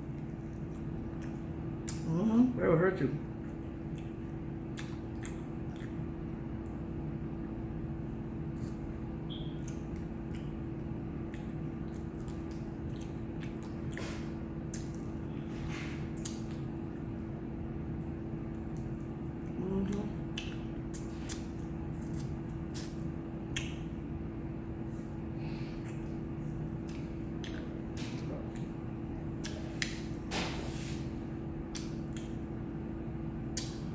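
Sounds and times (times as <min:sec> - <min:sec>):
person chewing: 0:00.0 - 0:02.5, 0:03.2 - 0:07.0, 0:07.9 - 0:24.0, 0:24.8 - 0:30.3, 0:31.6 - 0:32.6
low electrical hum: 0:00.0 - 0:33.9.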